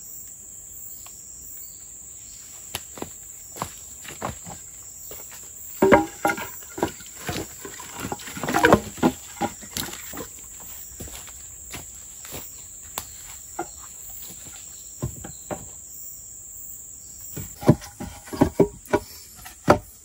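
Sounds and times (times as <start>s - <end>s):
forest insects chorus: 0.0s - 20.0s.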